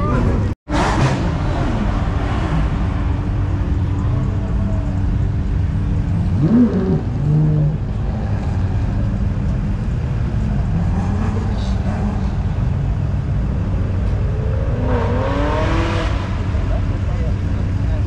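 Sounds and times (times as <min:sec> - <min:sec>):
car engine revving: 0:00.0 - 0:18.0
traffic engines rumbling: 0:00.0 - 0:18.0.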